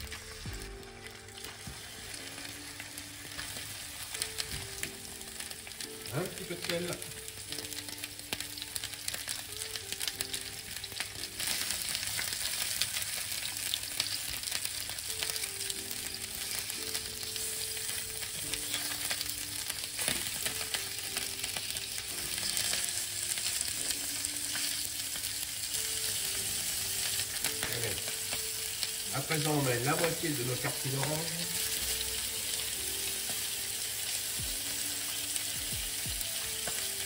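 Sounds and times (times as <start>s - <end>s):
chicken sizzling in hot oil: 0.0s - 37.0s.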